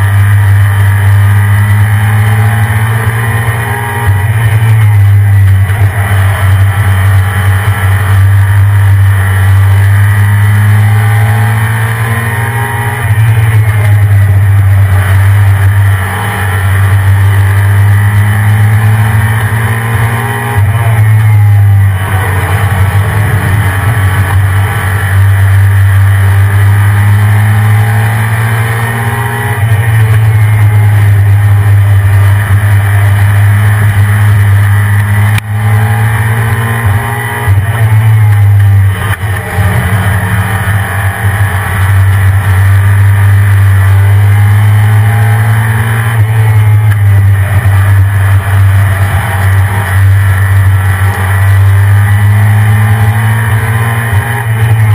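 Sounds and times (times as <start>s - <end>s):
truck engine revving: 0.0s - 54.9s.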